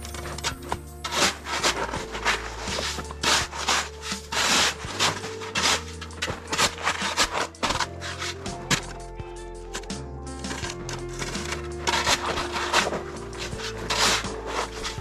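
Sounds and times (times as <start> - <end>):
snow shovel scraping wooden deck: 0.0 - 9.1, 9.7 - 15.0.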